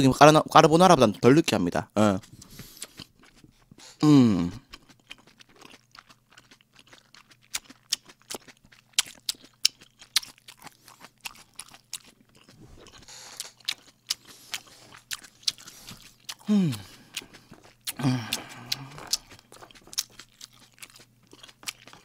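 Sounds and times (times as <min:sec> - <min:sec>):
person chewing food: 0:02.2 - 0:22.0.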